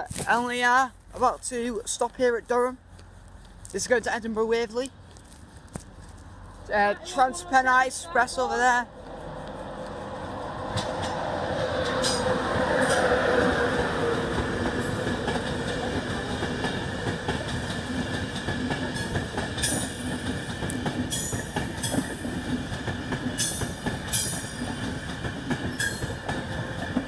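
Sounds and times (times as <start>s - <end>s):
train rumbling on tracks: 0.0s - 27.0s.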